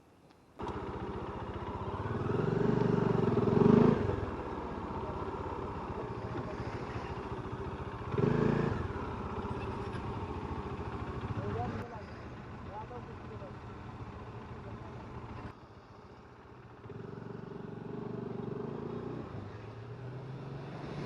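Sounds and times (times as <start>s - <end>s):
motorcycle engine revving: 0.6s - 15.6s, 16.6s - 21.0s.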